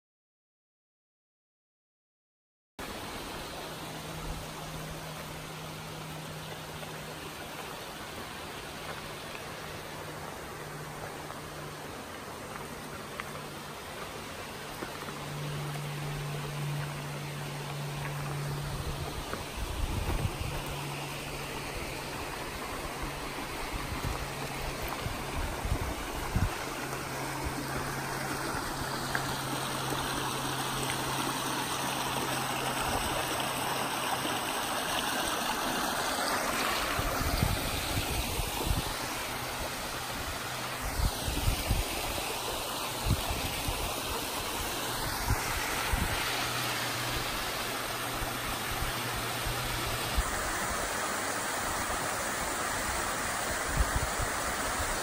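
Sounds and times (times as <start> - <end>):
creek water rushing over rocks: 2.8 - 55.0.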